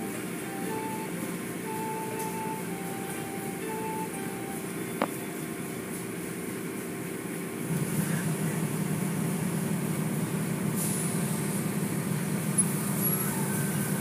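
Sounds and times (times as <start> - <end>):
car wash machinery rumble: 0.0 - 14.0.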